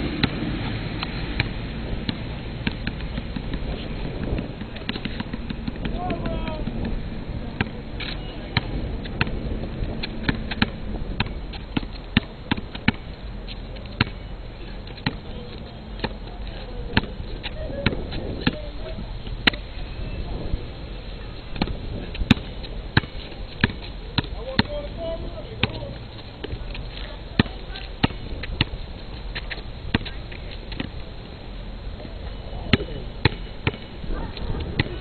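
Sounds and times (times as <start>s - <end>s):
basketball bouncing on asphalt: 0.0s - 20.6s, 21.2s - 31.1s, 32.0s - 35.0s.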